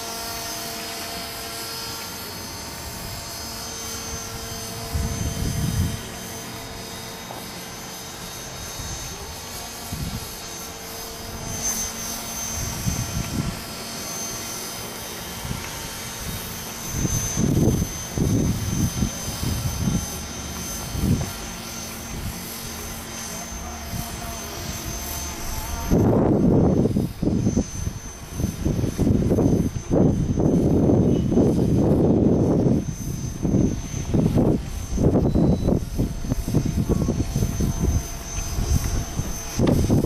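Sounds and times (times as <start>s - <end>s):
rc helicopter whining: 0.0s - 40.0s
wind rumbling on microphone: 2.2s - 7.6s, 8.4s - 40.0s.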